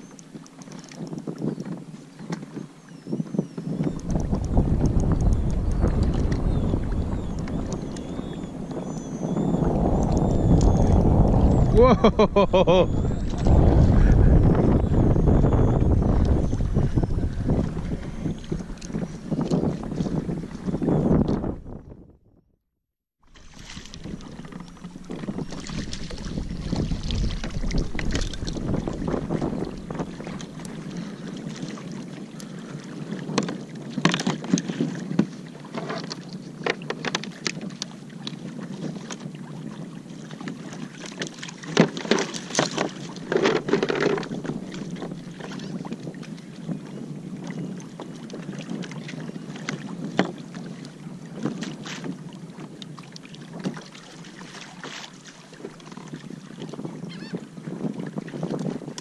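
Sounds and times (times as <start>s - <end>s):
water lapping against hull: 0.0s - 22.2s, 23.2s - 59.0s
wind on microphone: 0.0s - 22.5s, 23.3s - 59.0s.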